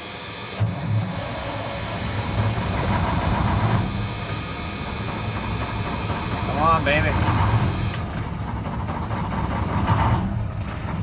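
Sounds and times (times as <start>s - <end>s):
diesel engine cranking and firing: 0.0s - 11.0s.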